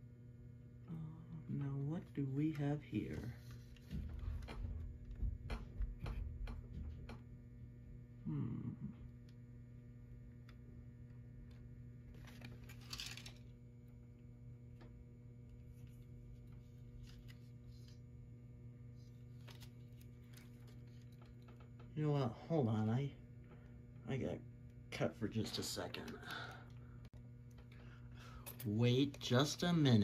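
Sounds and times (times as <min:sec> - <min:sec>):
low electrical mains hum: 0:00.0 - 0:30.0.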